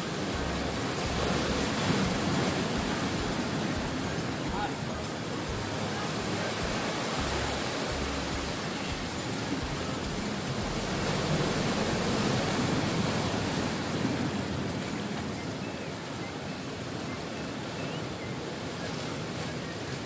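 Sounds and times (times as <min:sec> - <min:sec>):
sea surf rushing: 0:00.0 - 0:20.0.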